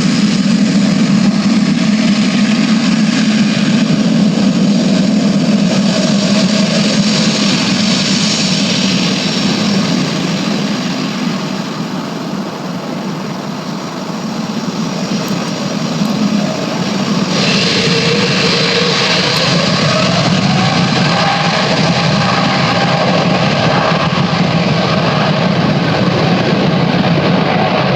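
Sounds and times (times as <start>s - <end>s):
jet engines rumbling: 0.0s - 27.9s
rising whine: 0.0s - 27.9s.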